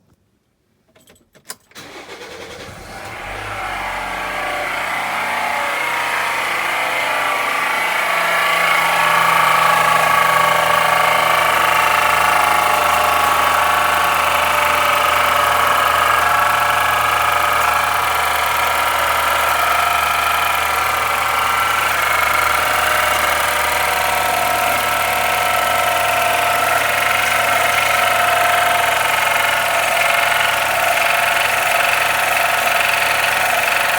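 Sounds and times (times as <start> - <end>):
engine starting and idling: 1.5 - 33.9.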